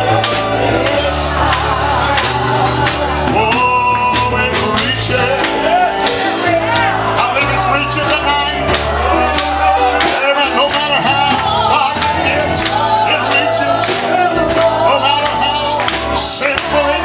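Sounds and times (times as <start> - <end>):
bass line: 0.0 - 17.0
drum and cymbal hits: 0.0 - 17.0
voices singing gospel: 0.0 - 17.0.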